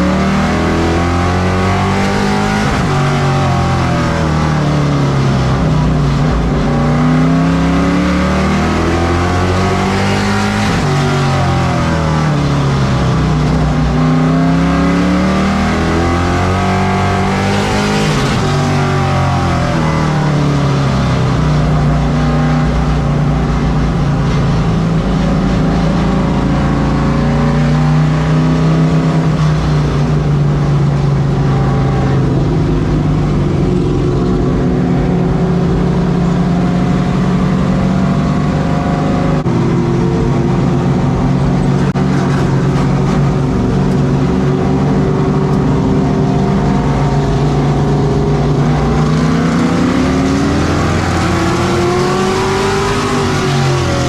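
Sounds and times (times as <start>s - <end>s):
race truck engine running hard: 0.0s - 54.0s.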